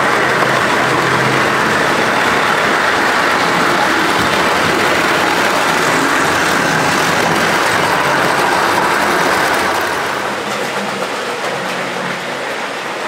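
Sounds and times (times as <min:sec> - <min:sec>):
model train wheels on rails: 0:00.0 - 0:13.0.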